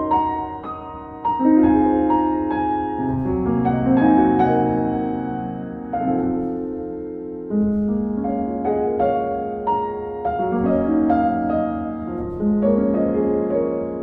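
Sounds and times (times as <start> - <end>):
slow gentle piano piece: 0.0 - 14.0.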